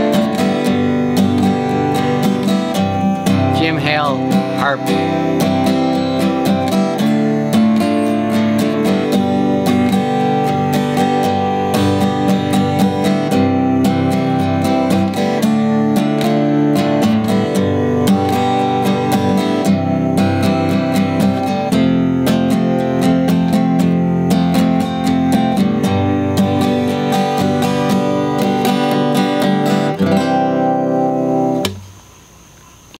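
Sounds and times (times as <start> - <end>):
acoustic guitar strumming: 0.0 - 32.9.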